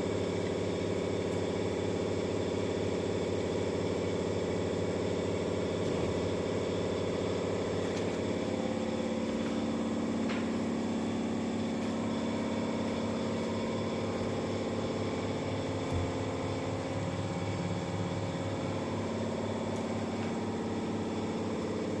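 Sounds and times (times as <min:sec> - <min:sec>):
motor running with low pulse: 0:00.0 - 0:22.0.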